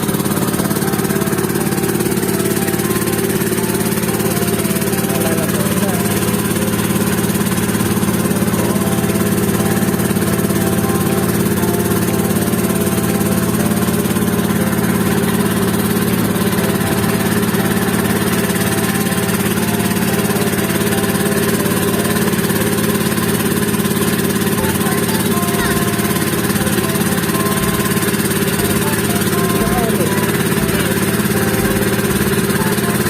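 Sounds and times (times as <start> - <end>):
boat engine drone: 0.0 - 33.0.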